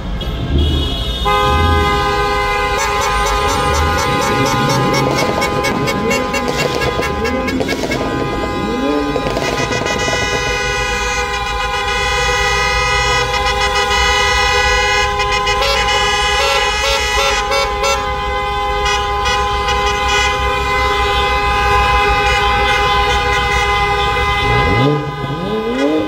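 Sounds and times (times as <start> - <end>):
car horns blaring: 0.0 - 26.0
short horn toots: 0.2 - 18.1, 18.8 - 26.0.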